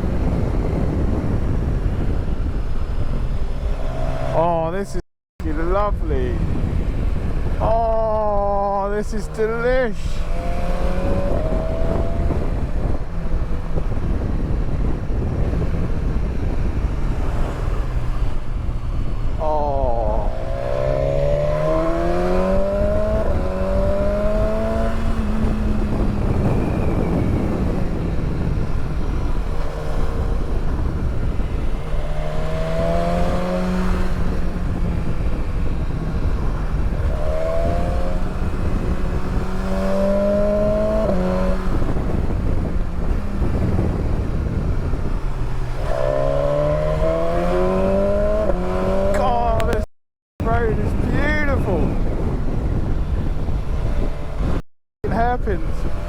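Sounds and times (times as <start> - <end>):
motorcycle engine accelerating: 0.0 - 5.0, 5.6 - 56.0
wind and road rush: 0.0 - 56.0.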